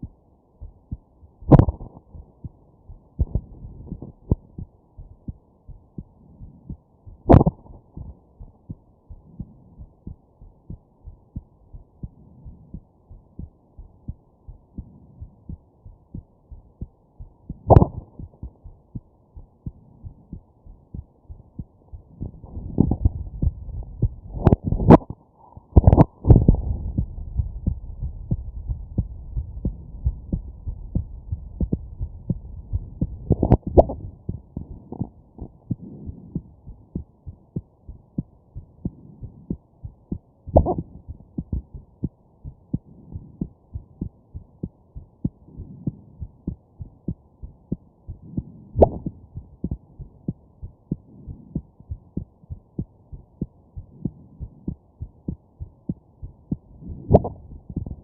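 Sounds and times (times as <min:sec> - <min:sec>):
heartbeat: 0:00.0 - 0:58.0.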